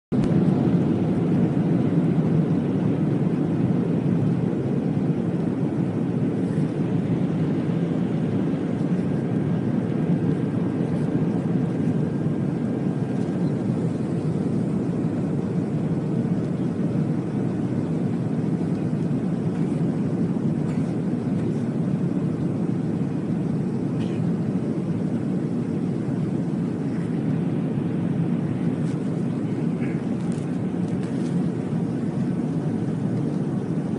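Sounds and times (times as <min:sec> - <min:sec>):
jet engines rumbling in cabin: 0:00.1 - 0:33.9.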